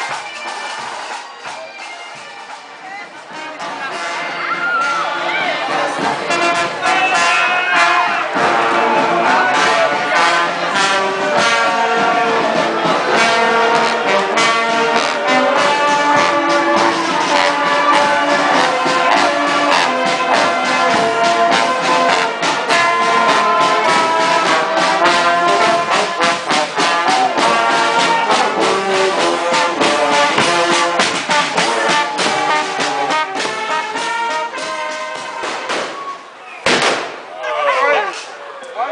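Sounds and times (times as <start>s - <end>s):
brass band playing: 0.0s - 38.2s.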